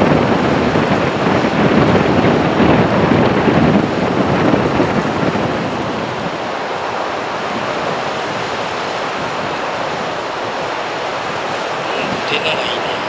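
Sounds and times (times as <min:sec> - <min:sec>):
surf crashing on beach: 0:00.0 - 0:13.0
wind buffeting microphone: 0:00.0 - 0:13.0.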